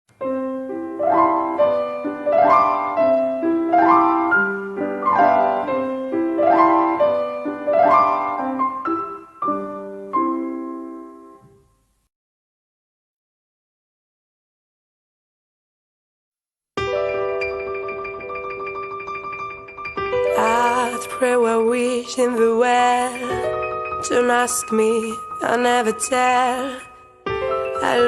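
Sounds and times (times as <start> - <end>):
solo piano arpeggios: 0.2 - 11.5, 16.8 - 28.0.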